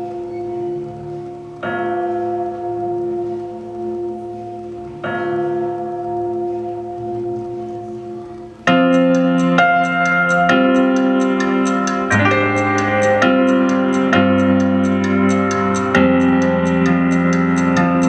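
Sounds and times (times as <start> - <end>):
bell tolling: 0.0 - 18.0
keyboard with ticking beat: 0.0 - 18.0.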